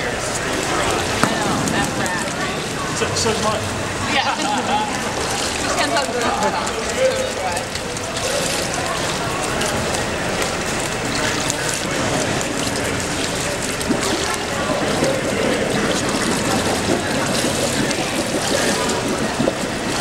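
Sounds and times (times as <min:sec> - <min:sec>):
pool water splashing and churning: 0:00.0 - 0:20.0.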